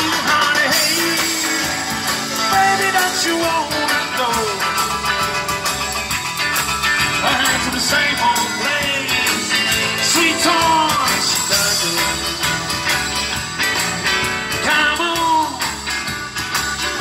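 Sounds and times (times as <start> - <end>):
bending lead guitar melody: 0.0 - 17.0
blues band playing: 0.0 - 17.0.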